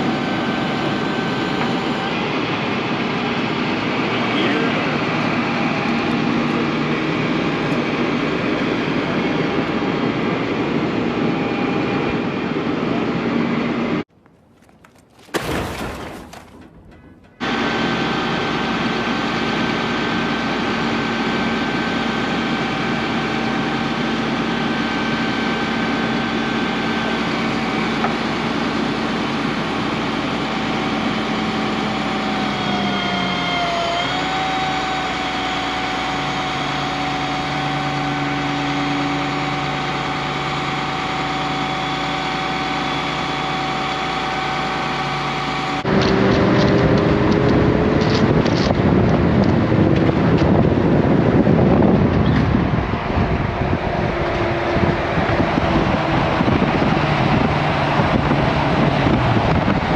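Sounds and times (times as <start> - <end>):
car engine droning: 0.0 - 14.8, 15.8 - 59.9
road noise: 0.0 - 59.9.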